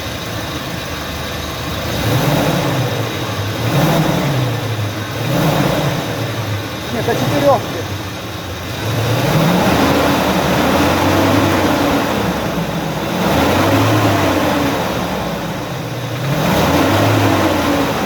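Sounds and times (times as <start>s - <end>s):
engine revving with rattle: 0.0s - 18.0s.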